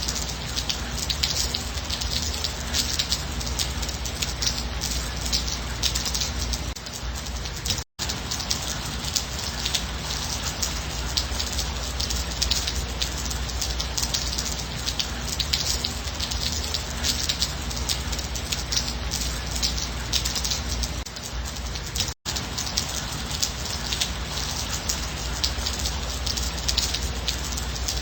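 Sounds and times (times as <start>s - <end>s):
gentle rain: 0.0s - 28.0s.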